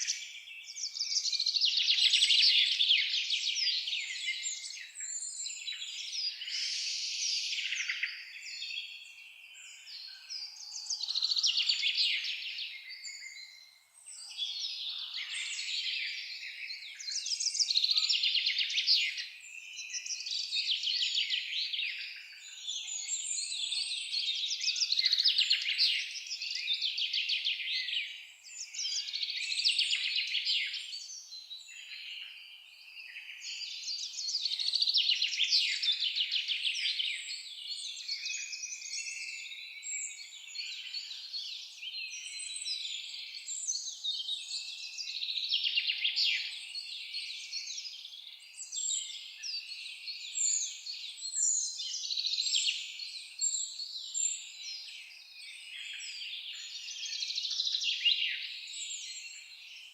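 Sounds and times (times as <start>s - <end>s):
songbirds singing trilled phrases: 0.0s - 59.9s.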